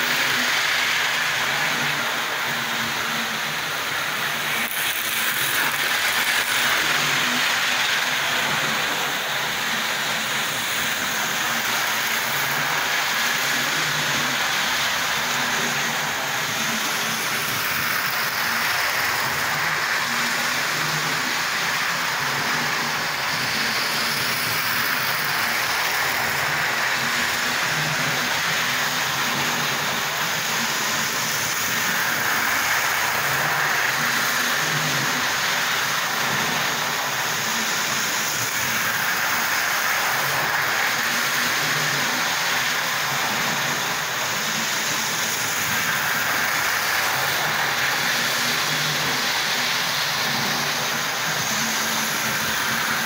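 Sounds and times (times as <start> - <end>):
model train wheels rumbling: 0.0 - 53.0.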